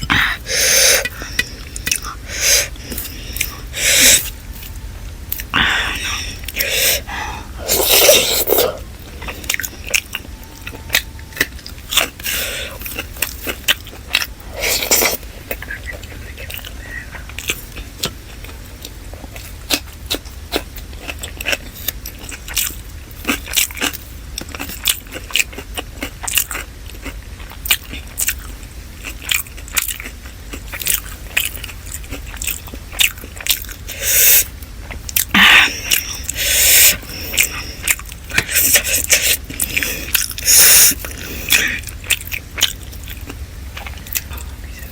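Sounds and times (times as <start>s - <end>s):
chewing and biting food: 0.0s - 44.9s.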